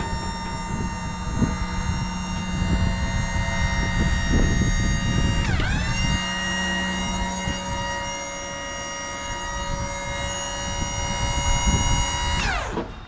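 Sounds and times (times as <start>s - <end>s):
motor whining: 0.0s - 13.0s.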